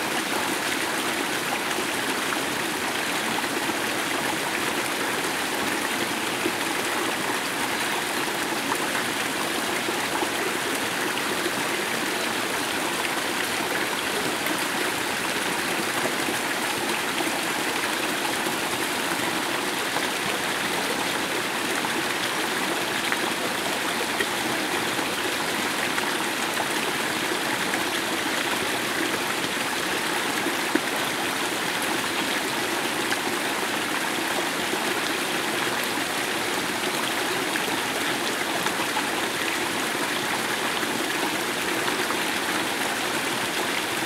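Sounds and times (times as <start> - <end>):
water rushing in a stream: 0.0 - 44.0.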